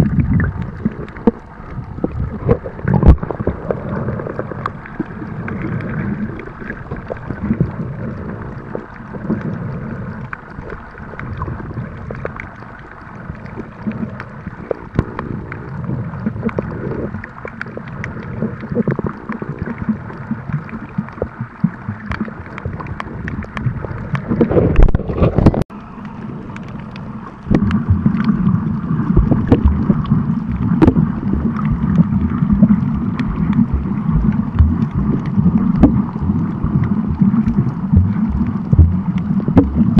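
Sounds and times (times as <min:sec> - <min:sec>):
clicks and crackles: 0:00.0 - 0:39.9
muffled underwater bubbling: 0:00.0 - 0:39.9.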